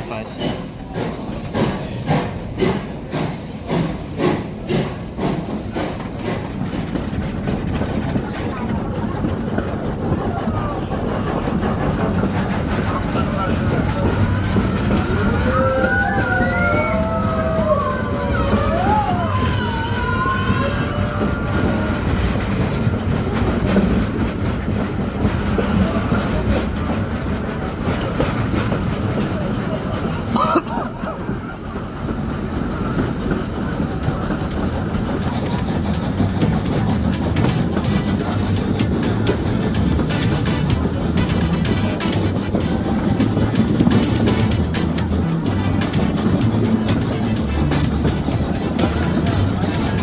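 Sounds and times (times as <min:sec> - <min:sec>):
steam locomotive chuffing: 0:00.0 - 0:50.0
train rumbling on rails: 0:00.0 - 0:50.0
wheels clicking over rail joints: 0:00.2 - 0:50.0.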